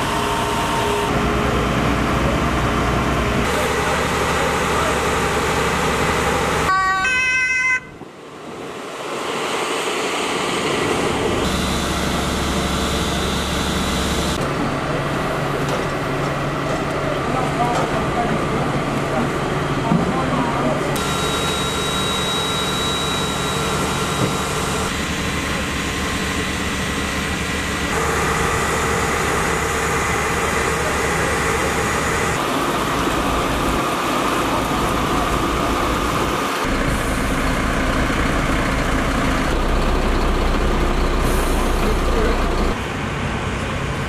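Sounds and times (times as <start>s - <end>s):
fire engine engine drone: 0.0s - 44.0s.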